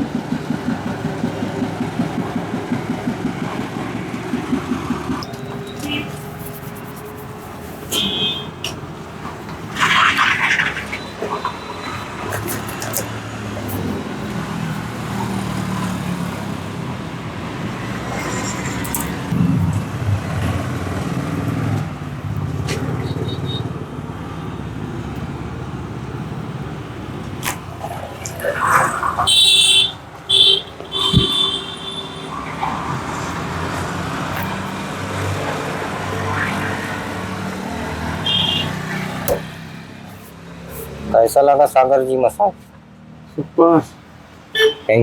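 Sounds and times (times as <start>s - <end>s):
street traffic noise: 0.0s - 45.0s.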